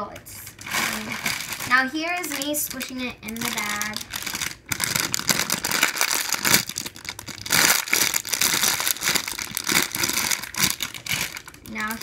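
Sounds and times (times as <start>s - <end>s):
plastic bag crinkling: 0.4s - 12.0s.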